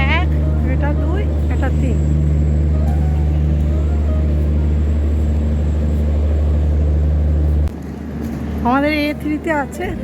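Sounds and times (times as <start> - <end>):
train diesel engine idling: 0.0 - 10.0.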